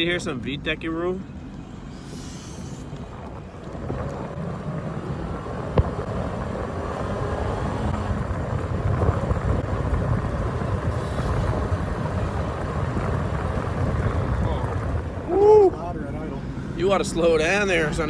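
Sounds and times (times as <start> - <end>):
car engine accelerating: 2.9 - 18.0.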